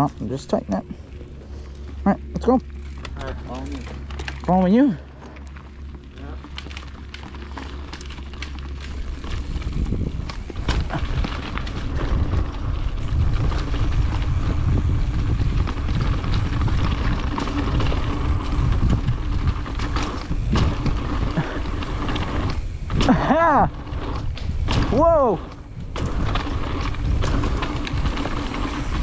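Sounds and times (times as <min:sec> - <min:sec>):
bike rattling and knocking: 0:00.0 - 0:29.0
bike tyres on dirt: 0:00.0 - 0:29.0
wind rumbling on microphone: 0:00.0 - 0:29.0.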